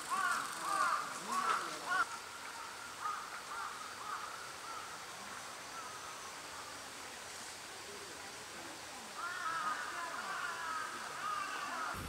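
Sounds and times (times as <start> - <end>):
faint distant calls: 0.0 - 12.0
insects chirring: 0.0 - 12.0.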